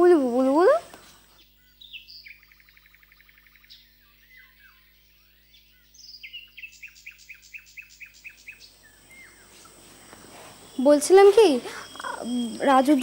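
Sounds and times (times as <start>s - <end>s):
bird trill: 0.2s - 13.0s.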